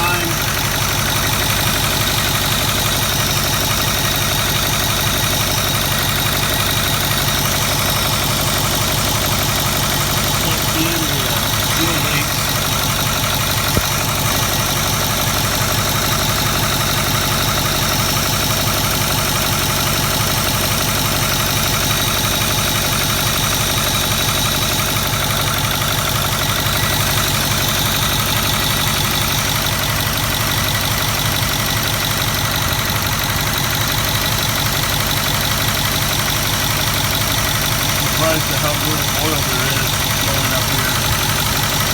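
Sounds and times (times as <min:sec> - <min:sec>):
diesel engine idling with clatter: 0:00.0 - 0:41.9.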